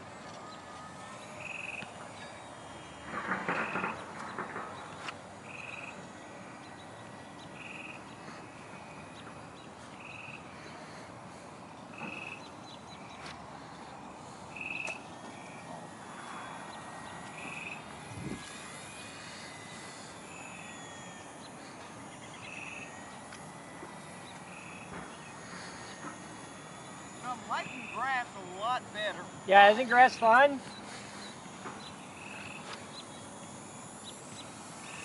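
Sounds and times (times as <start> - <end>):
small electric airplane motor whine: 0.0 - 35.0.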